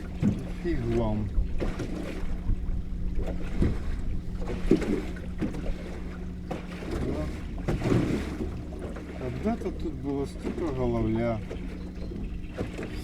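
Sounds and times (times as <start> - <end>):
boat motor humming: 0.0 - 13.0
choppy waves: 0.0 - 13.0
water knocking against hull: 0.0 - 13.0.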